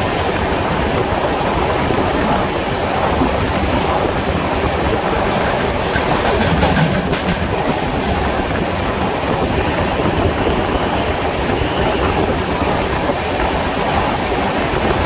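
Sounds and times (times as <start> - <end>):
train coaches rumbling: 0.0 - 15.0
wheels clicking over rail joints: 0.0 - 15.0.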